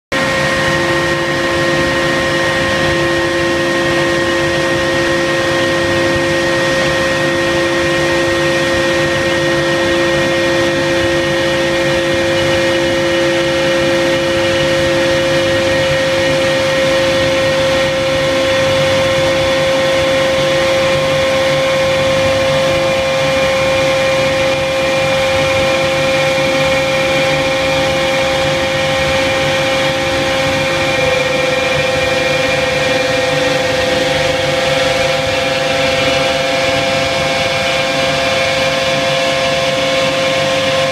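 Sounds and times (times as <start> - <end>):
machinery humming with whining tones: 0.1 - 40.9.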